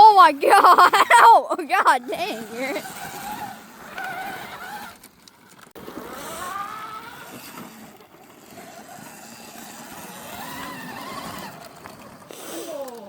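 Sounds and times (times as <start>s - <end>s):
motorcycle engine revving: 1.8s - 13.0s.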